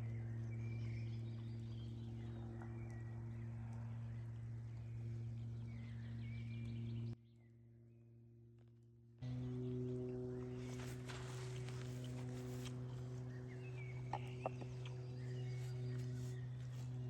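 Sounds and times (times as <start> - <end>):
birds calling and trilling: 0.0 - 7.2, 9.3 - 17.0
steady low hum: 0.0 - 17.0.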